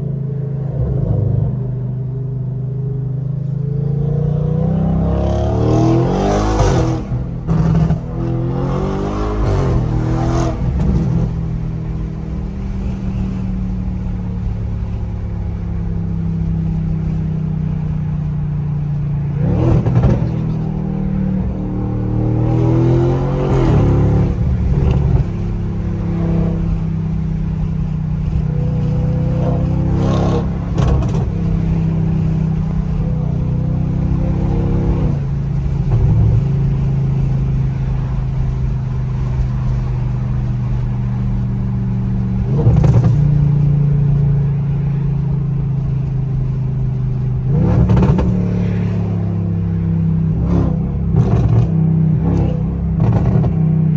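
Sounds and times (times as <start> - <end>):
car engine accelerating hard: 0.0 - 53.9.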